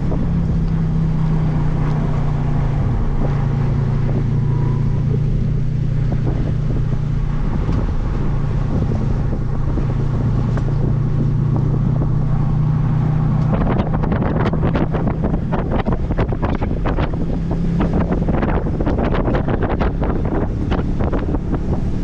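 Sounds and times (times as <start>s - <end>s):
car engine droning: 0.0s - 22.0s
wind noise on microphone: 0.0s - 22.0s.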